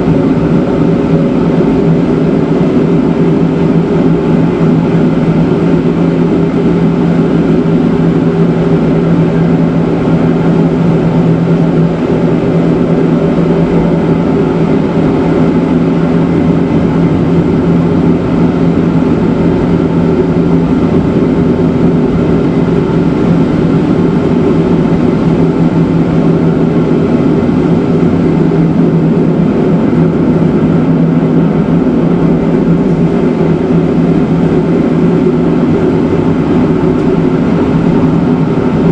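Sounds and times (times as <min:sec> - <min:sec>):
electric train drone: 0:00.0 - 0:38.9
rail noise: 0:00.0 - 0:38.9.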